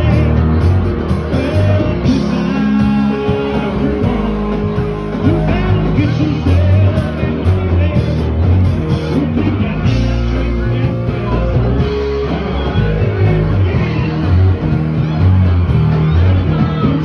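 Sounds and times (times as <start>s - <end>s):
drums: 0.0s - 17.0s
electric guitar: 0.0s - 17.0s.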